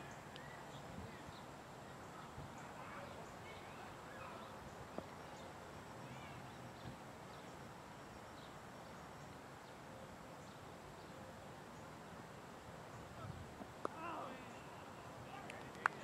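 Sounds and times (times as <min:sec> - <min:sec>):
faint open-air ambience: 0:00.0 - 0:16.0
small birds chirping: 0:00.0 - 0:16.0.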